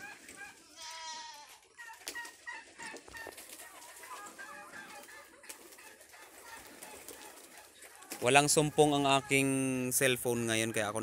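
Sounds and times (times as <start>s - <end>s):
chickens clucking: 0.0s - 11.0s
farm bird calls: 0.0s - 11.0s.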